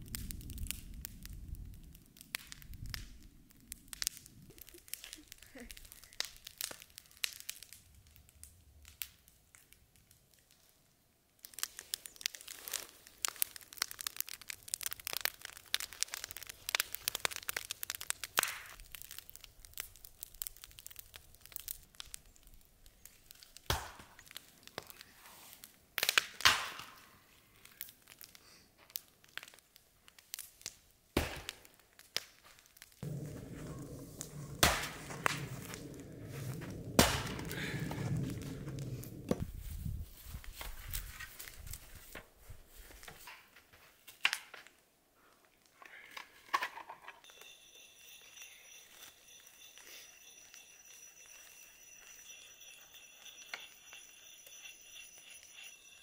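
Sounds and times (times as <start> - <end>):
wood fire crackling and popping: 0.0 - 46.6, 47.2 - 56.0.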